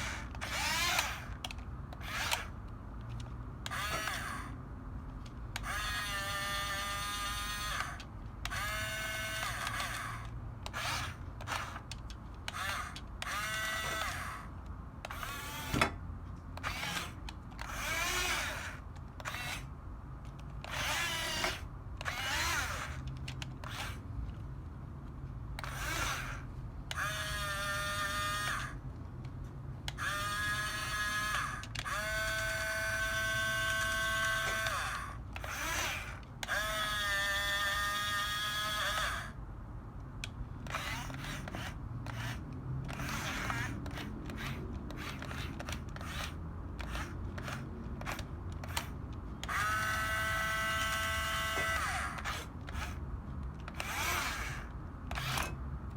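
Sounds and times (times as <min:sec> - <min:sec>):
electric gear motors whining: 0:00.0 - 0:04.6, 0:05.2 - 0:16.0, 0:16.6 - 0:19.7, 0:20.6 - 0:24.0, 0:25.6 - 0:28.8, 0:29.9 - 0:39.4, 0:40.6 - 0:53.0, 0:53.6 - 0:55.6.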